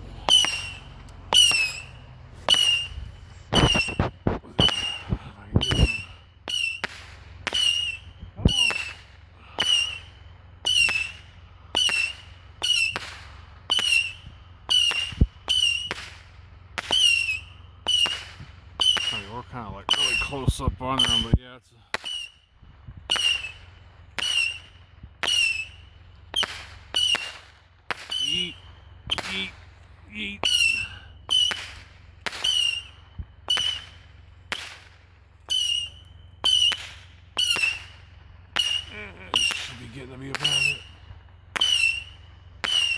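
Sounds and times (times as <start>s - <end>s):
missiles whistling: 0.0s - 42.9s
sharp cracks: 0.0s - 42.9s.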